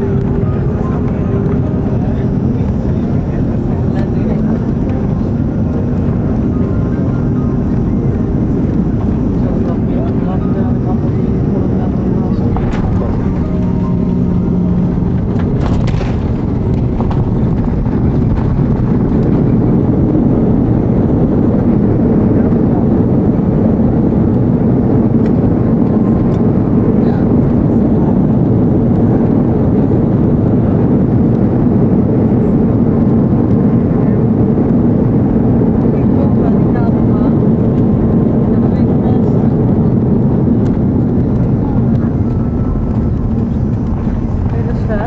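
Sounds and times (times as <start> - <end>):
aircraft cabin engine and airflow roar: 0.0 - 45.0.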